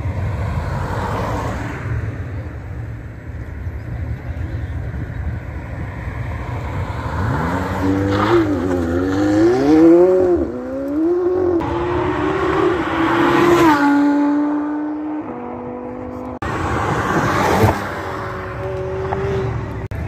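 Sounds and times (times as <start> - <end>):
supercar engines revving: 0.1 - 20.0.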